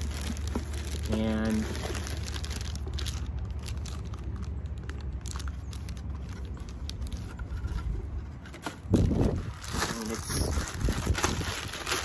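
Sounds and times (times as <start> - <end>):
plastic bag crinkling: 0.0 - 12.0
steady low rumble: 0.0 - 12.0.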